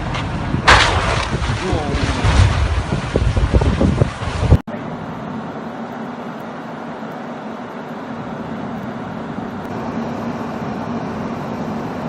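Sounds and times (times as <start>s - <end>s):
road vehicle rumble and hiss: 0.0s - 1.9s, 4.2s - 12.0s.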